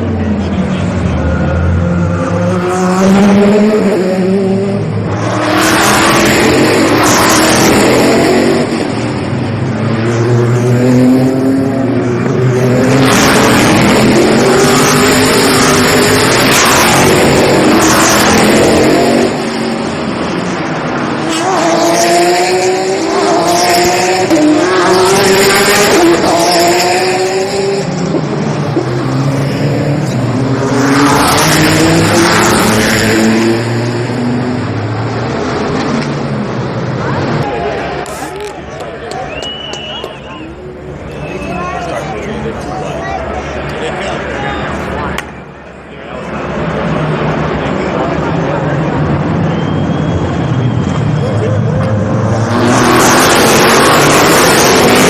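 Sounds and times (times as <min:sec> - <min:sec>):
race car engines revving past: 0:00.0 - 0:55.0.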